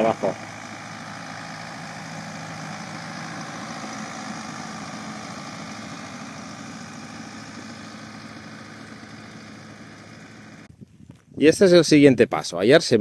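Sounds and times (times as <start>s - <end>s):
tractor diesel engine running: 0.0s - 10.7s.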